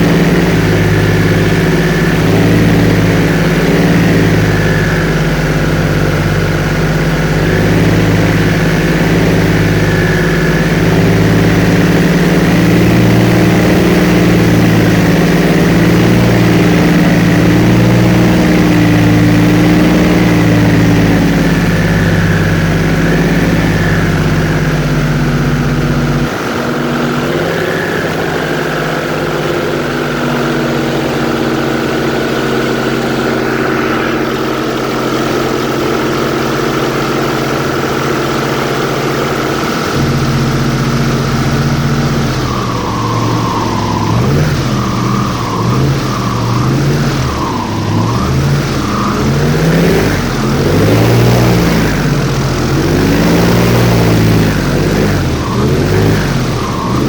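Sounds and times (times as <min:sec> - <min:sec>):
airboat engine and propeller: 0:00.0 - 0:57.0.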